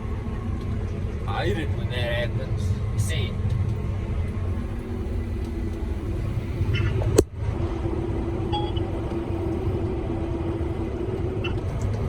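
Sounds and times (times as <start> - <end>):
combine harvester rumbling: 0.0 - 12.0.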